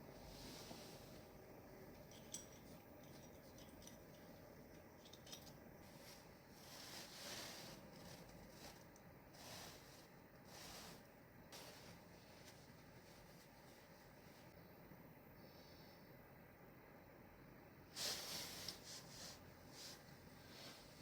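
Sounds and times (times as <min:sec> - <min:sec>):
soft hiss: 0:00.0 - 0:21.0.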